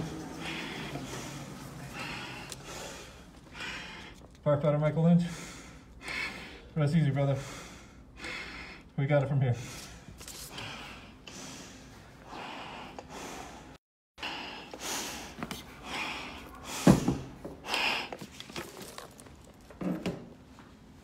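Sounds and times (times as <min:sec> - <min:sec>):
heavy breathing through face mask: 0:00.0 - 0:04.4, 0:05.2 - 0:18.9.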